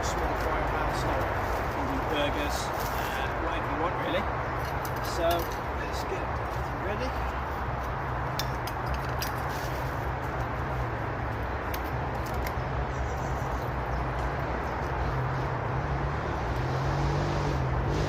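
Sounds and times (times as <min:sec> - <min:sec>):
distant motorway traffic roar: 0:00.0 - 0:18.0.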